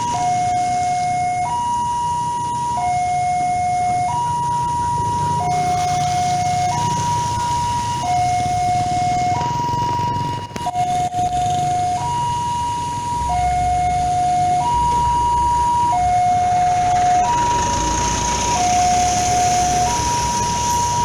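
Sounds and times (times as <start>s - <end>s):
level-crossing two-tone warning signal: 0.0s - 21.0s.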